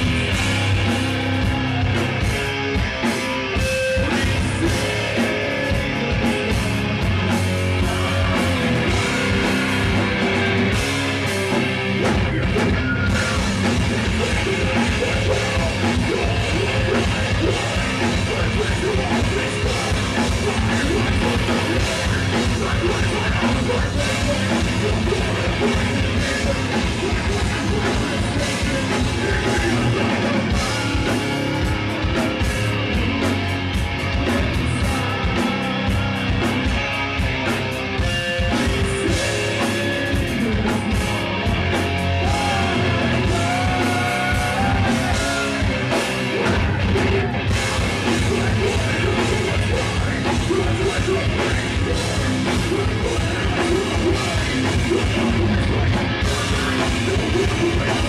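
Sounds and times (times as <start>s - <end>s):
heavy metal band playing live: 0.0s - 58.0s
vocalist singing: 0.0s - 58.0s.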